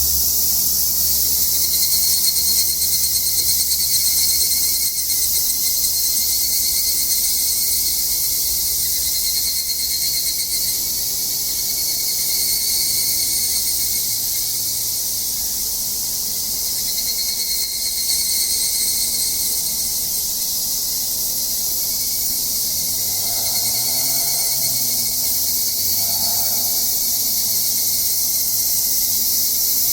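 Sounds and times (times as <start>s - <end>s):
cicadas droning: 0.0s - 29.9s.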